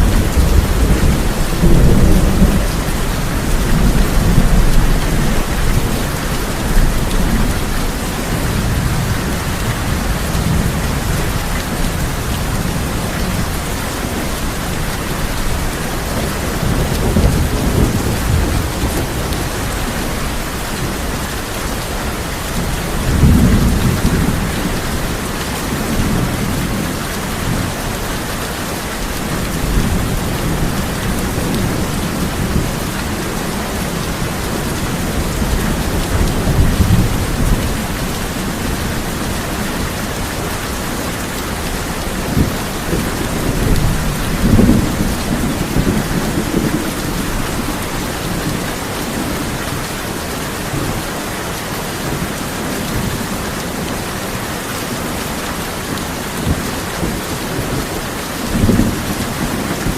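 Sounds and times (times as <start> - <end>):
thunder rumbling: 0.0 - 28.3, 28.9 - 49.7
heavy rain on a tin roof: 0.0 - 59.9.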